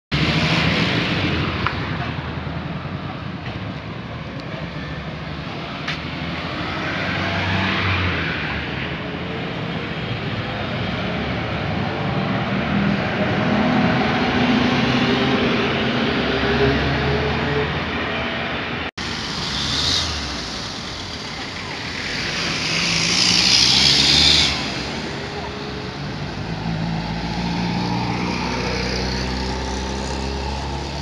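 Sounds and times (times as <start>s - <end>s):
passing cars and trucks: 0.1s - 31.0s.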